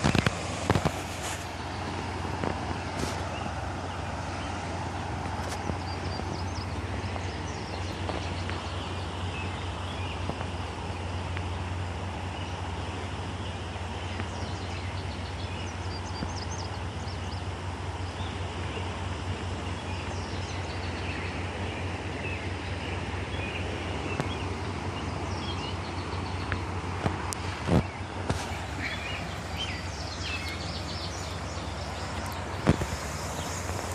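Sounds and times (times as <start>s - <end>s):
small birds chirping: 0.0s - 33.9s
steady low rumbling: 0.0s - 33.9s.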